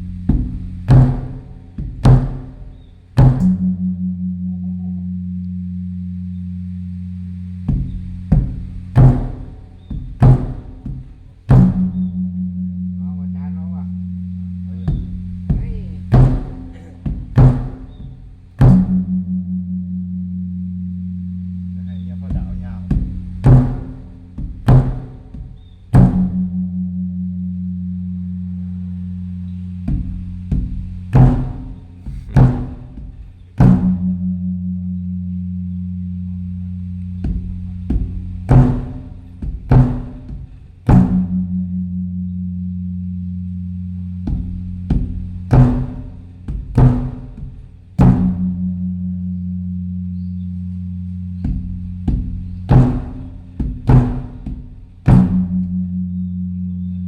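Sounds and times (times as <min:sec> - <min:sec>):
temple drum strokes: 0:00.0 - 0:56.9
low ringing hum: 0:00.0 - 0:57.0.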